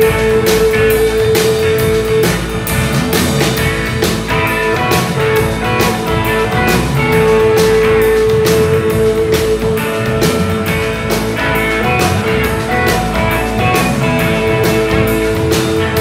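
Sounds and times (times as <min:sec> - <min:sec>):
drum kit beat with cymbals: 0:00.0 - 0:16.0
electric guitars: 0:00.0 - 0:16.0.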